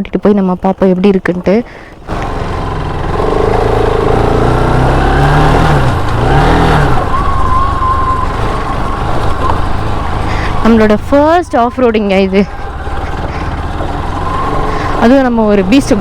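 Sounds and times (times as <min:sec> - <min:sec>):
motorcycle engine revving: 0:00.6 - 0:16.0.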